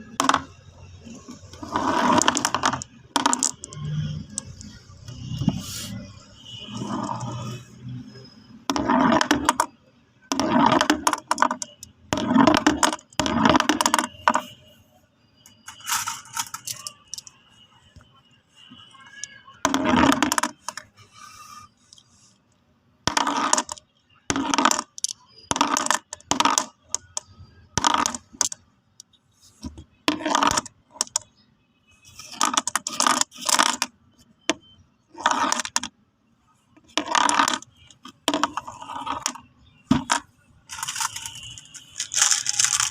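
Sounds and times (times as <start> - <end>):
marbles clicking and clattering: 0.0 - 14.5, 15.6 - 17.4, 19.2 - 20.9, 23.1 - 29.1, 30.1 - 31.3, 32.0 - 33.9, 34.5 - 35.9, 36.8 - 42.9.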